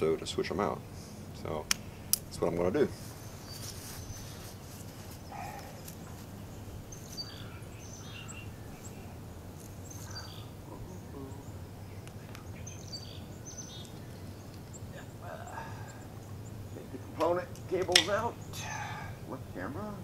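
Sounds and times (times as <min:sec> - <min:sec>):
birds chirping: 0:00.0 - 0:20.0
low background hum: 0:00.0 - 0:20.0.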